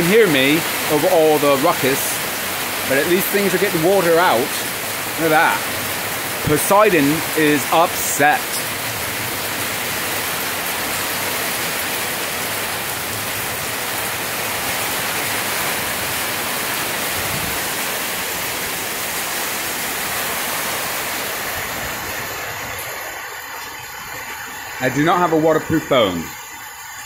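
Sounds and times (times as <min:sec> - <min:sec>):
heavy rain downpour: 0:00.0 - 0:27.0.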